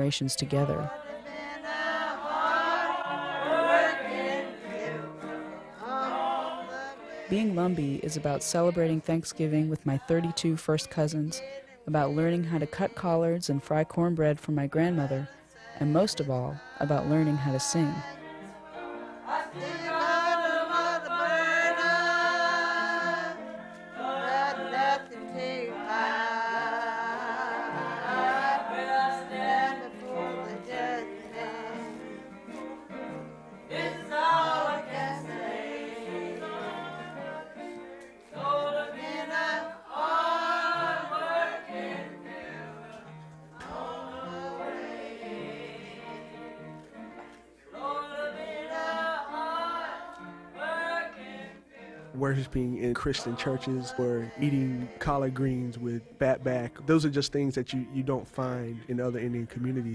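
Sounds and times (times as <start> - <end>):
voices singing a hymn: 0.0 - 59.9.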